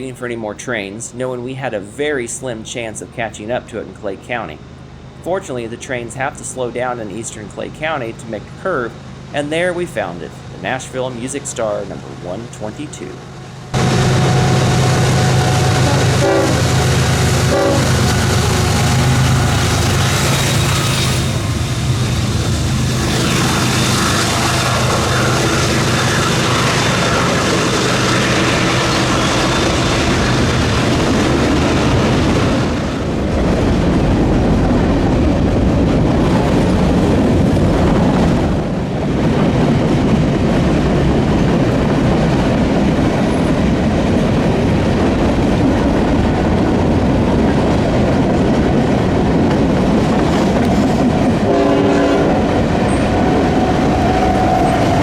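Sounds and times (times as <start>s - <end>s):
train wheels rumbling over rails: 2.4s - 55.0s.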